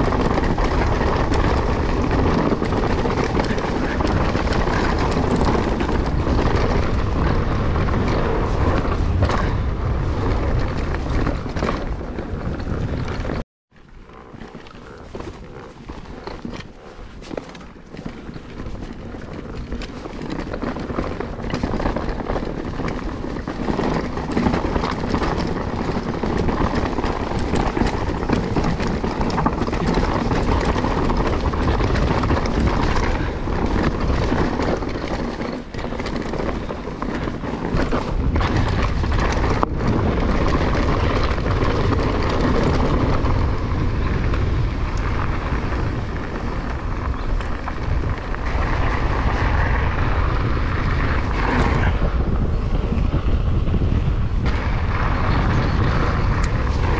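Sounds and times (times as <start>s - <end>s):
bike knocks and rattles: 0.0s - 13.4s, 14.1s - 56.9s
tyres rolling on gravel: 0.0s - 56.9s
wind rushing over microphone: 0.0s - 56.9s.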